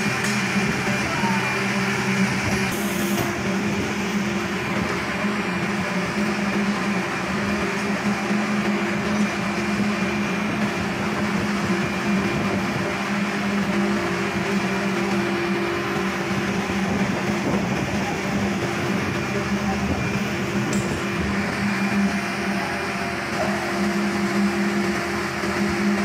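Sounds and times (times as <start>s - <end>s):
steady mechanical drone: 0.0s - 26.0s.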